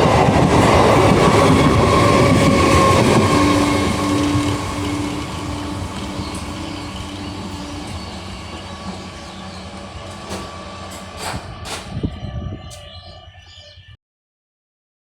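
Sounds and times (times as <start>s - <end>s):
train rumbling past: 0.0s - 13.9s.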